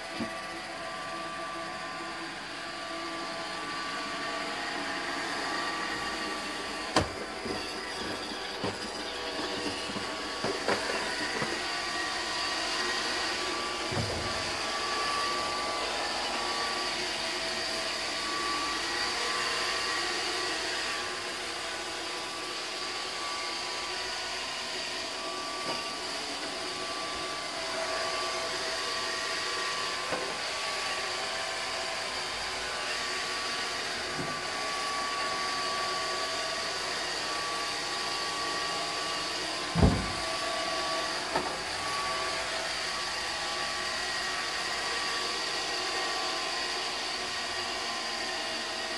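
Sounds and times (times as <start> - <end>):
robot vacuum whirring: 0.1 - 48.9.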